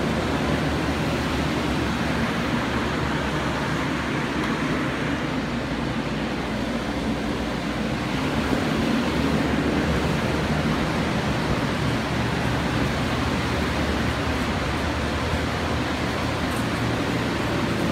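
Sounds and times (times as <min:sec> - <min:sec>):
steady rushing noise: 0:00.0 - 0:17.9.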